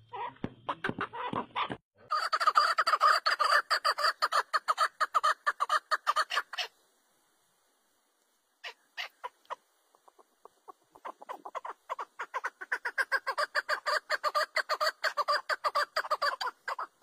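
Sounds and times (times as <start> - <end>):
partridge clucking calls: 0.0 - 6.7, 8.6 - 17.0.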